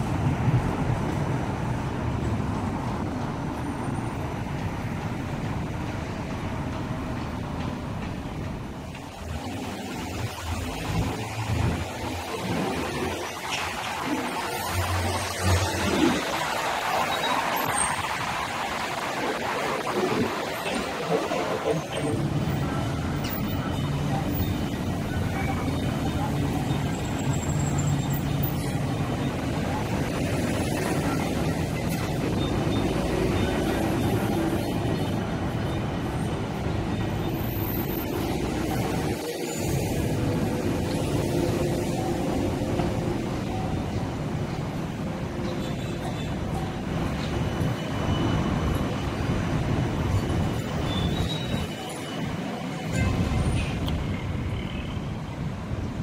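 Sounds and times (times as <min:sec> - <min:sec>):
street traffic: 0:00.0 - 0:56.0
tram rumble: 0:00.0 - 0:56.0.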